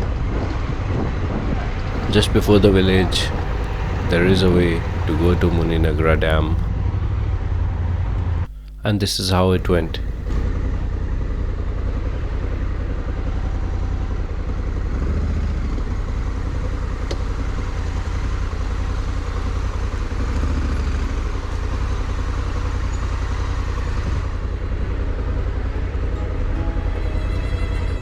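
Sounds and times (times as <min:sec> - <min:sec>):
wind and road noise: 0:00.0 - 0:08.8, 0:09.6 - 0:26.6
motorcycle engine running: 0:01.9 - 0:08.8, 0:10.0 - 0:28.0.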